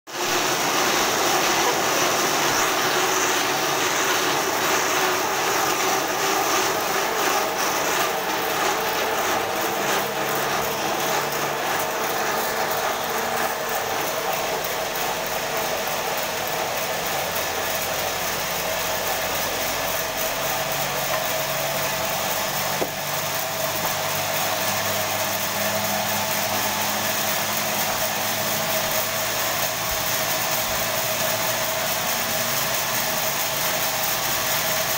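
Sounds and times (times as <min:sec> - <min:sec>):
band saw cutting log: 0:00.1 - 0:34.9.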